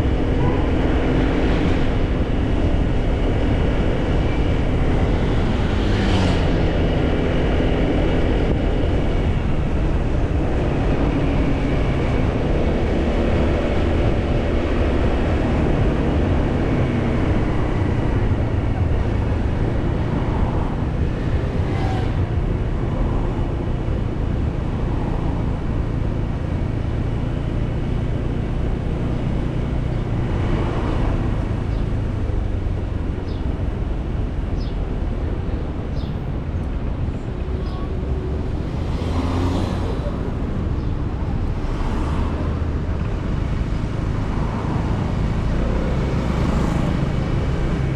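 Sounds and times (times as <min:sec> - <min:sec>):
road and wind rumble: 0:00.0 - 0:47.9.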